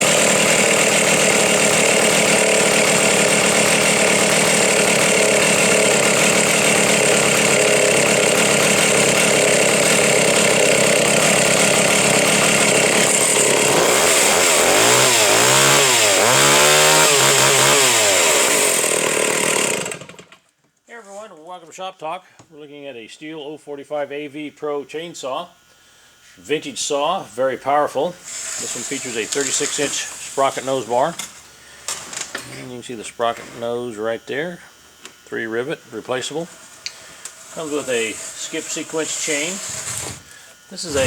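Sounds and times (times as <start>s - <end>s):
chainsaw running: 0.0s - 20.4s, 28.0s - 41.0s.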